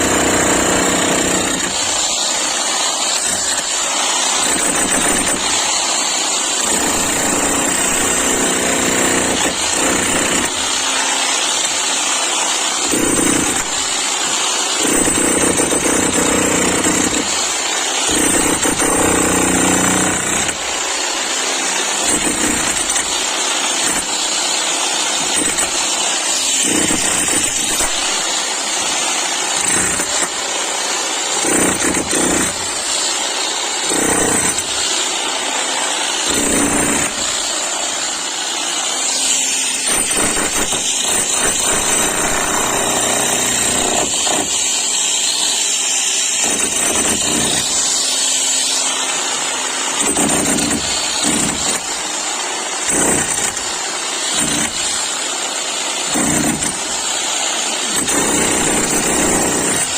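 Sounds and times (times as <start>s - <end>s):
demolition hammer rattling: 0.0s - 21.0s, 21.7s - 24.5s, 25.1s - 33.2s, 33.8s - 35.2s, 36.0s - 38.1s, 39.2s - 44.6s, 46.4s - 48.8s, 50.0s - 52.0s, 56.0s - 57.0s, 57.9s - 59.9s.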